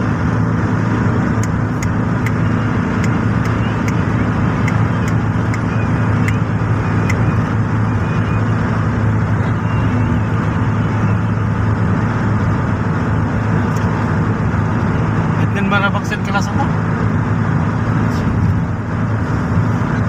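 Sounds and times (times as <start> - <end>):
car cabin engine and tyre hum: 0.0 - 20.0.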